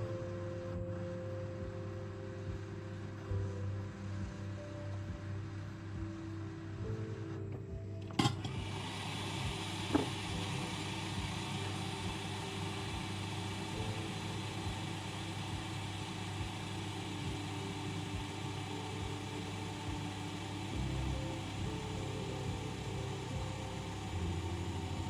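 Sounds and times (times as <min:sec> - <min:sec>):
motor humming with airy hiss: 0:00.0 - 0:25.0.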